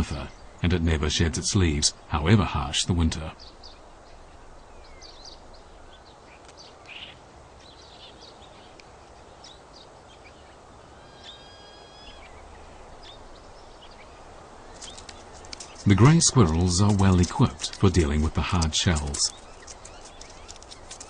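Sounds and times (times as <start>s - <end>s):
low steady hiss: 0.0s - 21.0s
bird chirps: 3.3s - 21.0s.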